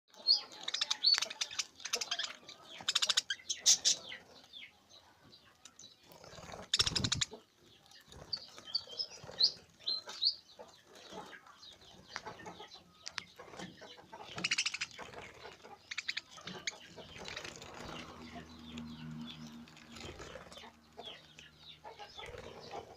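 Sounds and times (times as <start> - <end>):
budgies chirping: 0.1 - 22.9.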